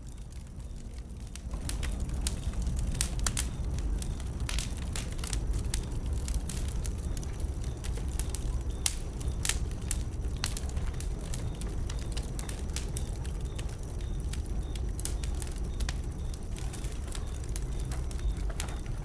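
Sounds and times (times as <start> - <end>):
bonfire crackling and popping: 0.0 - 19.0
low fire rumble: 0.0 - 19.0.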